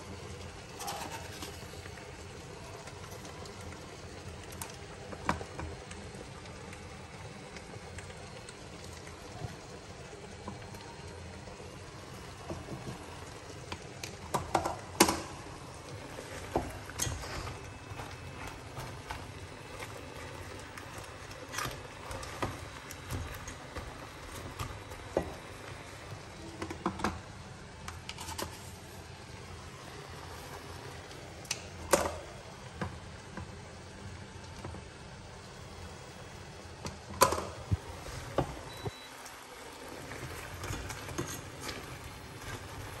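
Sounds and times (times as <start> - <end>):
prawns sizzling in a pan: 0.0 - 43.0.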